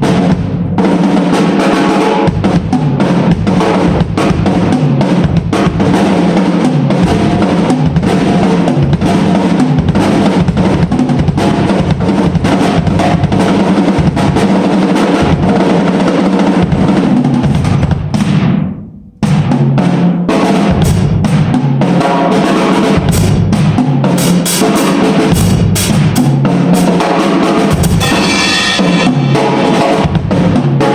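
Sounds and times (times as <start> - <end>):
drum kit groove: 0.0 - 30.9.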